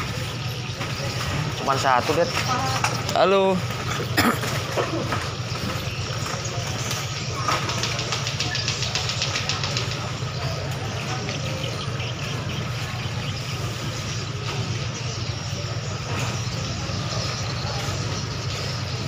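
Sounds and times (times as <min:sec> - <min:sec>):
faint voices: 0:00.0 - 0:19.0
ship engines humming: 0:00.0 - 0:19.0.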